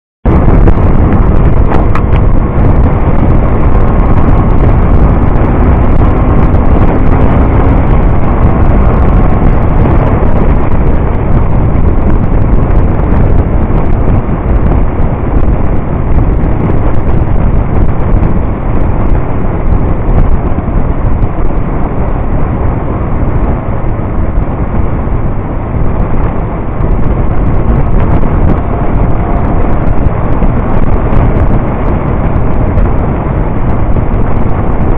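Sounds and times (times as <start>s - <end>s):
road noise: 0.2s - 34.9s
wind buffeting microphone: 0.2s - 34.9s
motorcycle engine: 0.3s - 34.9s.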